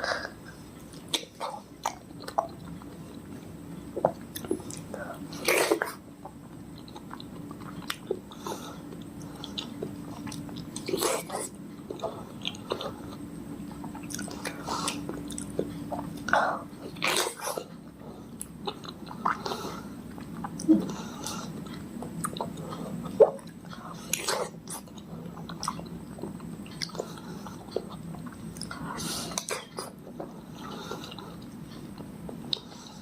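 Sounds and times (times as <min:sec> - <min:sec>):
chewing soft fruit: 0:00.0 - 0:33.0.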